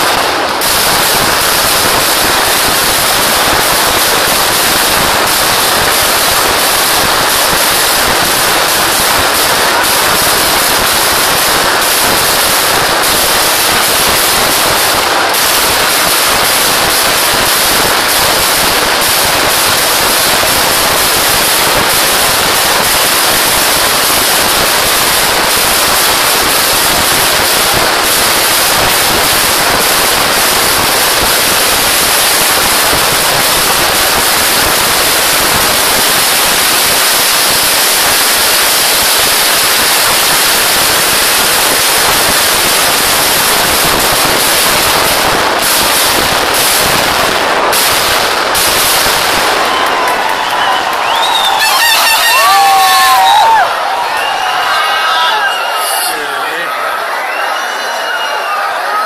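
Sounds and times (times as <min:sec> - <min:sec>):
rapid firecracker bangs: 0:00.0 - 0:55.4.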